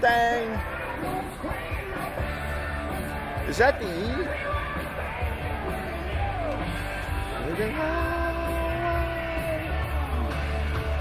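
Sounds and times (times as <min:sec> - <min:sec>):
rock music with singing: 0:00.0 - 0:11.0.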